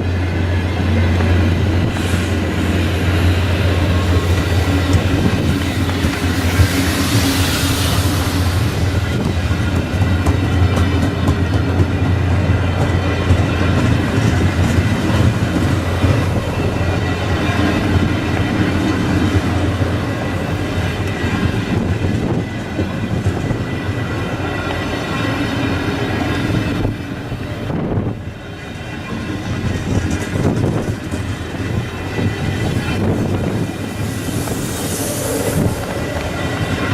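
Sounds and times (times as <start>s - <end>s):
passenger train rumbling: 0.0s - 36.9s.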